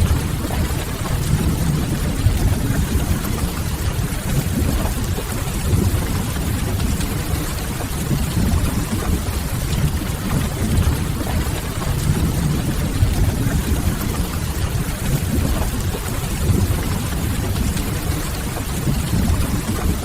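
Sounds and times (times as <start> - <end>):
deep even rumble: 0.0 - 20.0
steady rain: 0.0 - 20.0.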